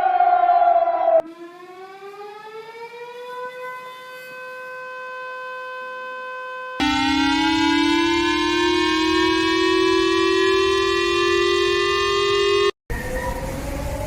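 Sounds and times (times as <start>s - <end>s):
loud siren tone: 1.1s - 14.0s
siren winding up: 1.2s - 13.4s.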